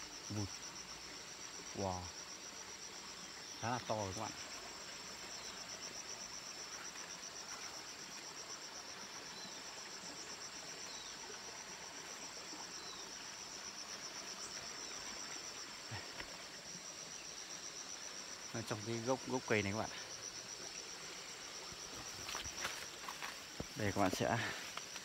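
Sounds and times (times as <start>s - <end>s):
insect trilling: 0.0s - 25.0s.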